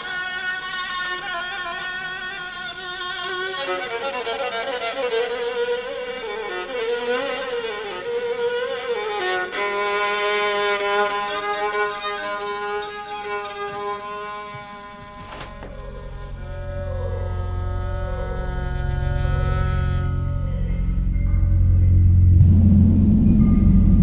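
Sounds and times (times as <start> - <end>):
solo violin melody: 0.0 - 21.4.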